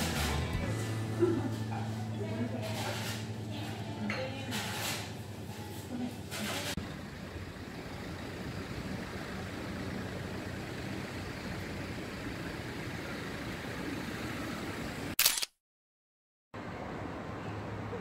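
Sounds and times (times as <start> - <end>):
city traffic rumble: 0.0 - 15.2, 16.6 - 18.0.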